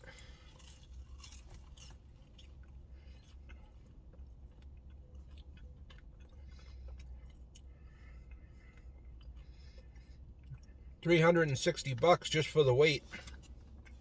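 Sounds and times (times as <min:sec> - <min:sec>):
faint chewing: 0:00.0 - 0:11.0, 0:13.0 - 0:14.0
low steady rumble: 0:00.0 - 0:14.0.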